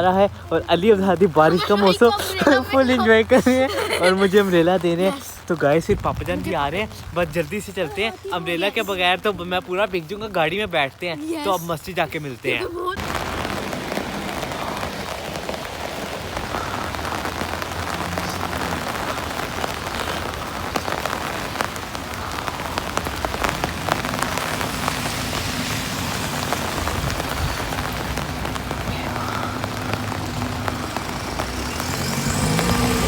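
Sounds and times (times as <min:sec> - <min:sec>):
heavy rain on hard surfaces: 0:00.0 - 0:33.0.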